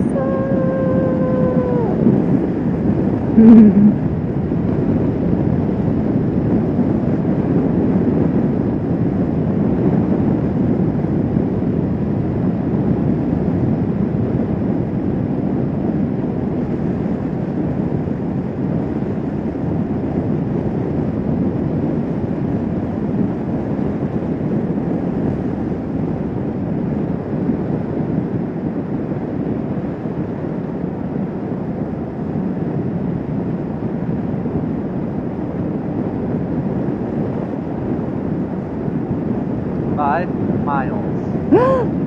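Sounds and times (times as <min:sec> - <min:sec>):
motorcycle engine and road noise: 0:00.0 - 0:41.6
wind rush over microphone: 0:00.0 - 0:42.0.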